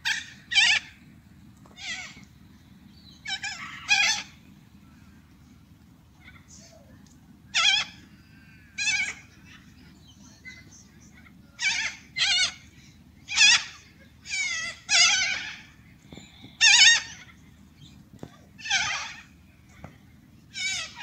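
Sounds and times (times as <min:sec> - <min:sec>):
cockatoos calling: 0:00.0 - 0:21.0.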